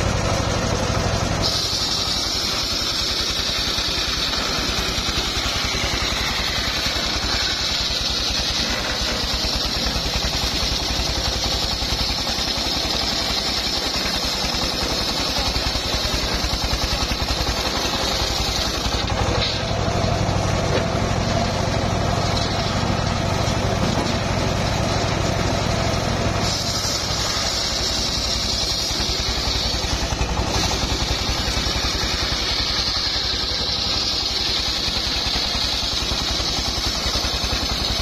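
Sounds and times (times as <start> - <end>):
engine running: 0.0 - 38.0
saw blade cutting log: 0.0 - 38.0.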